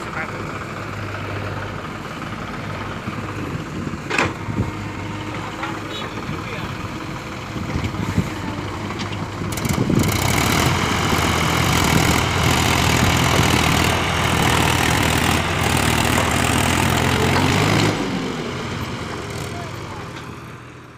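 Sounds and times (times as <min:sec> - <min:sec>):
diesel engines working hard: 0:00.0 - 0:20.9.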